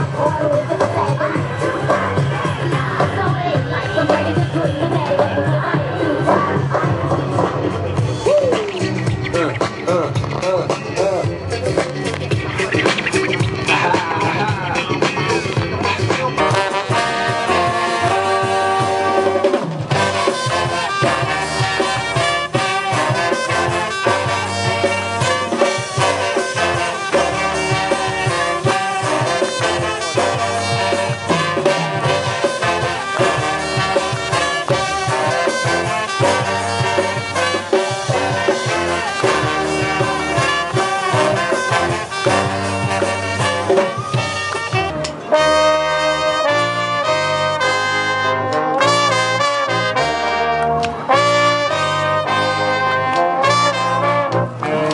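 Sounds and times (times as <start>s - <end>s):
brass band playing: 0.0s - 54.9s.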